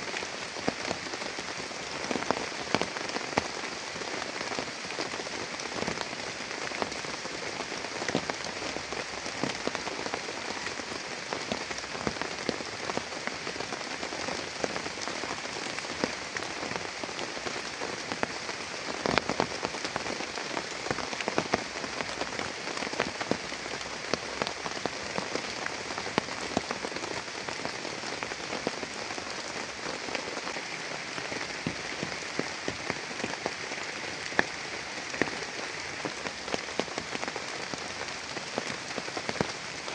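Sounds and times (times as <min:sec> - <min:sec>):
heavy rain falling: 0:00.0 - 0:39.9
raindrops pattering on a surface: 0:00.0 - 0:39.9.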